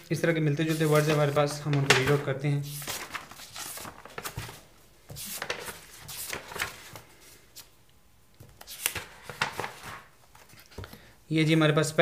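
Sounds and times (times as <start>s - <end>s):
notebook pages rustling: 0.0s - 7.7s, 8.4s - 11.1s.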